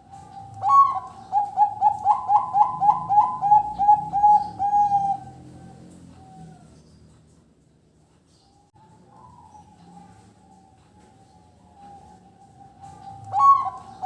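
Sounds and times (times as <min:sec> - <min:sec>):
dove cooing: 0:00.0 - 0:07.0, 0:08.8 - 0:14.0.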